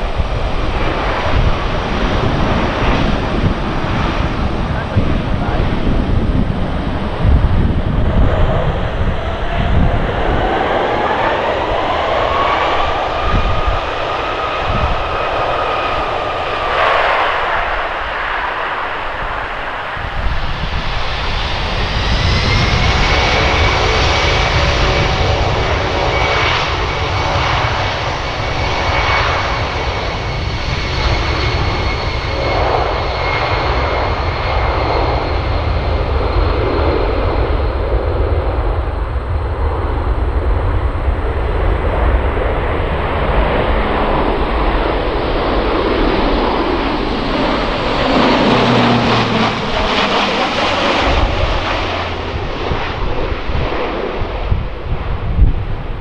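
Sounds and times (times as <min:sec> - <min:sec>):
low rumble: 0:00.0 - 0:32.9, 0:33.9 - 0:56.0
jet engines whining: 0:00.0 - 0:56.0
turboprop aircraft droning: 0:00.0 - 0:56.0.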